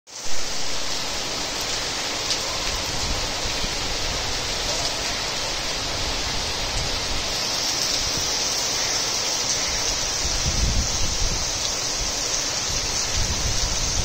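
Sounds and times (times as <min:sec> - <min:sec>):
heavy rain on flooded street: 0:00.1 - 0:14.0.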